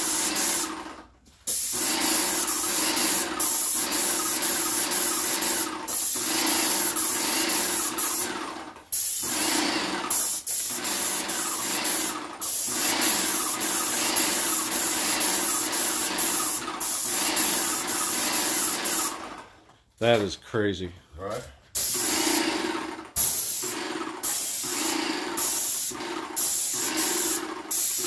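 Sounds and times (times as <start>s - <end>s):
paint sprayer hissing: 0.0s - 19.3s, 21.7s - 28.0s.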